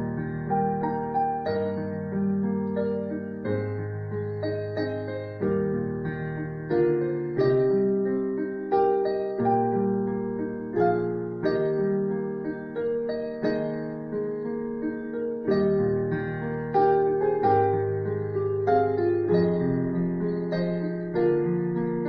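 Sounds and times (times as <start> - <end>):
slow keyboard music: 0.0 - 22.0.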